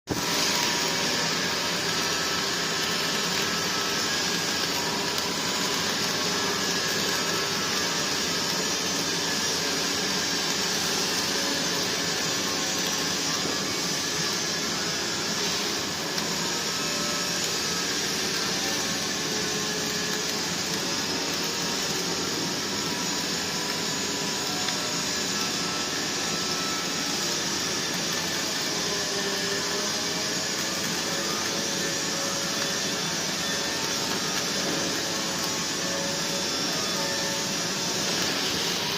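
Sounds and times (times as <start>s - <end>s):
welding arc hissing and crackling: 0.1s - 38.9s.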